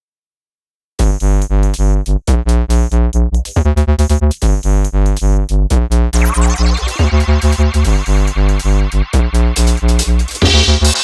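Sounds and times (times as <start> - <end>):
electronic music with drum-machine beat: 1.0 - 11.0.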